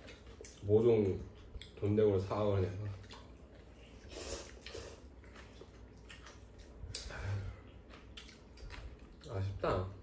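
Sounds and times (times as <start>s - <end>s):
soft chewing: 0.0s - 10.0s.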